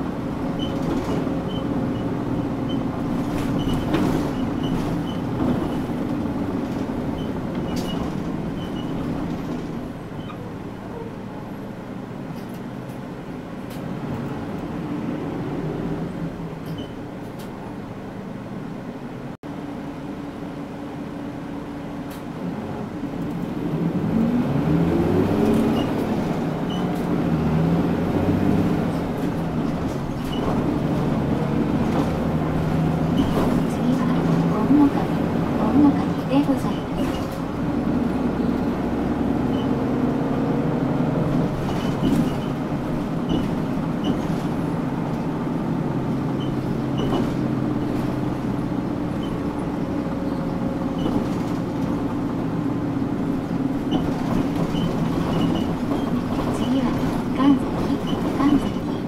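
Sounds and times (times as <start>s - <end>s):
bus diesel engine: 0.0s - 59.0s
road noise: 0.0s - 59.0s.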